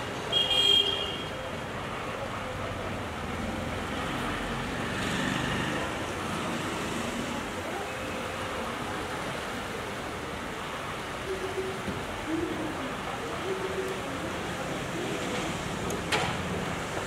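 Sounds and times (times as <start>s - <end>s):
distant road traffic hum: 0.0s - 17.0s.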